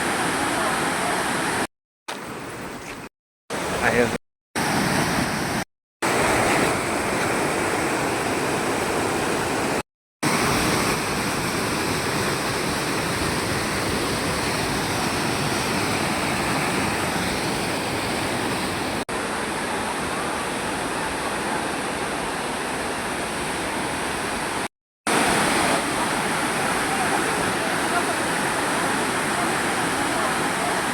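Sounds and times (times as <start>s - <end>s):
waterfall rushing: 0.0s - 2.3s, 3.5s - 30.9s.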